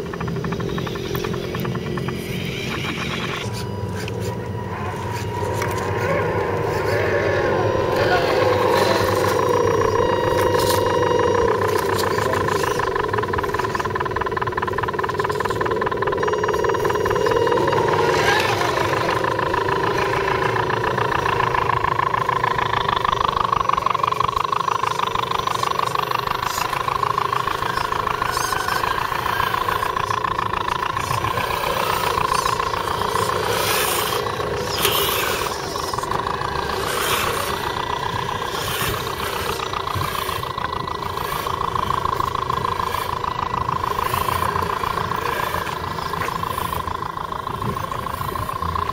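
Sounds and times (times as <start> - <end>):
toy truck electric motors whining: 0.0 - 48.9.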